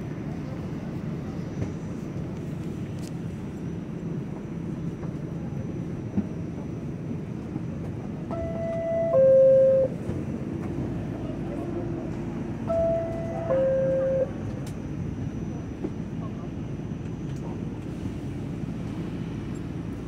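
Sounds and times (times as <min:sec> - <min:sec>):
train humming: 0:00.0 - 0:20.0.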